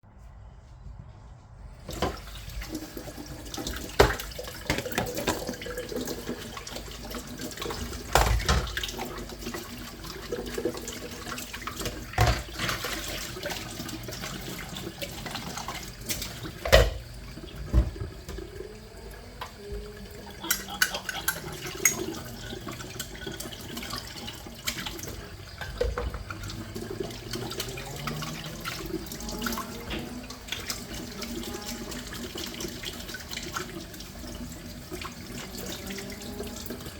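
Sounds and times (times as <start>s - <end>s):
tap water running into sink: 1.8s - 36.9s.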